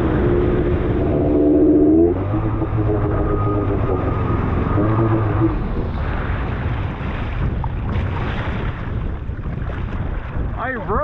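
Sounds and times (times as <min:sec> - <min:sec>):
jet ski engine running: 0:00.0 - 0:11.0
water splashing: 0:00.0 - 0:11.0
wind noise: 0:00.0 - 0:11.0.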